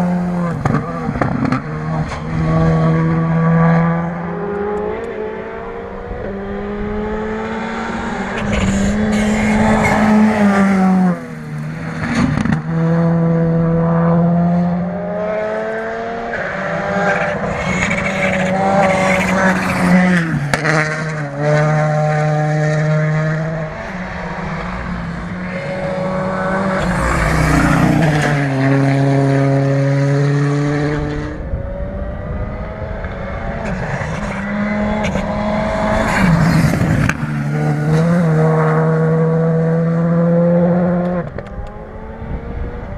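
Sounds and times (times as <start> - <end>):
rally car engine revving hard: 0.0 - 42.9.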